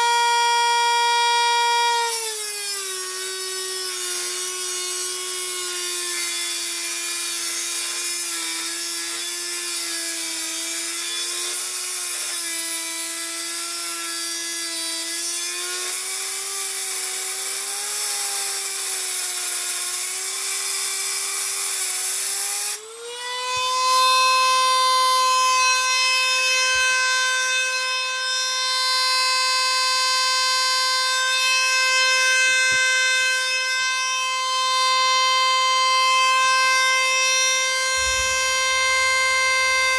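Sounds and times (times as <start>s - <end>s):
power tool motor whining: 0.0s - 39.9s.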